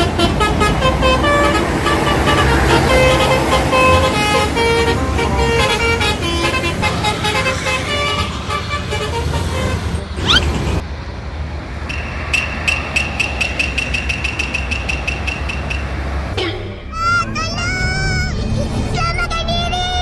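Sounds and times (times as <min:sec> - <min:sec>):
bus horn playing a tune: 0:00.0 - 0:16.4
rising whistle: 0:00.0 - 0:16.4
low engine rumble: 0:00.0 - 0:16.5.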